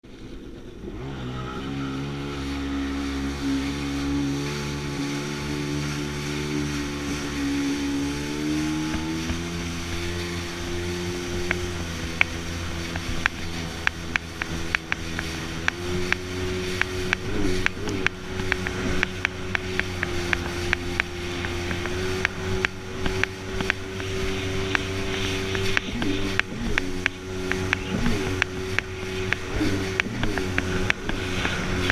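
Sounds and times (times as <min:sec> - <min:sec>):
jet ski engine running: 0:00.1 - 0:31.9.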